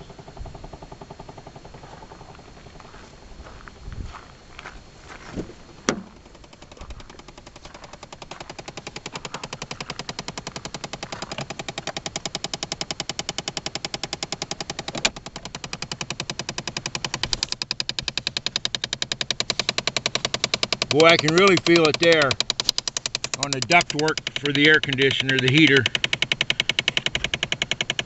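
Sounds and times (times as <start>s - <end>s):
rapid clicking in air ducts: 0.0s - 4.4s, 5.5s - 28.0s.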